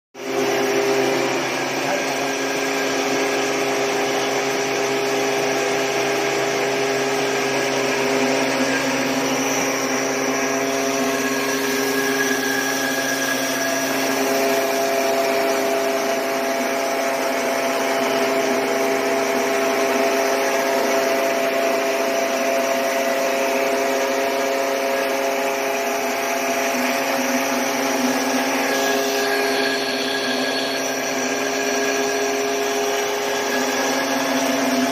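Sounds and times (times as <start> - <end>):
rice mill machine whine: 0.2 - 34.9.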